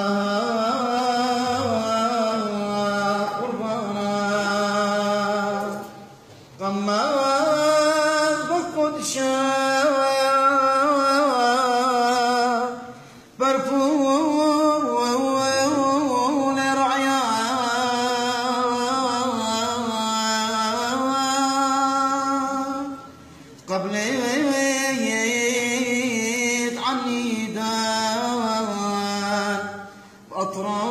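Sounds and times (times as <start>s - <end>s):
man chanting a hymn: 0.0s - 6.0s, 6.6s - 30.9s.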